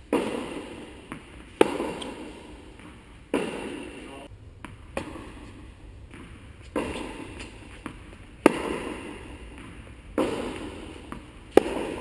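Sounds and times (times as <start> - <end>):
tennis ball struck by racquets: 0.0 - 12.0
tennis ball bouncing on court: 0.1 - 12.0.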